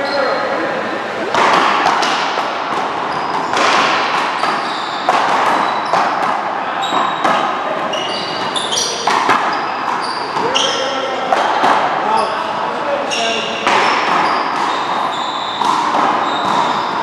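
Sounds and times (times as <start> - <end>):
sneaker squeaks: 0.0 - 0.5, 1.8 - 11.3, 12.0 - 17.0
ball smacks echoing in hall: 1.2 - 17.0.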